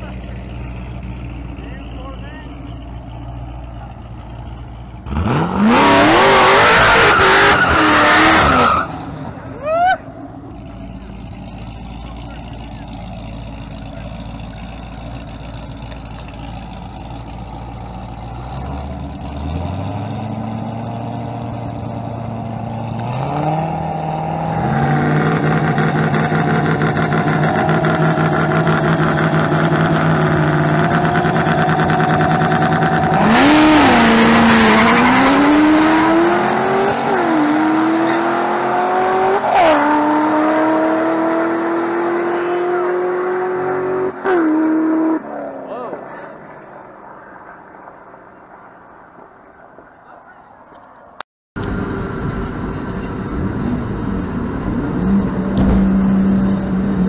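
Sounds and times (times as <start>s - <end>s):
car engines idling and revving: 0.0s - 57.0s.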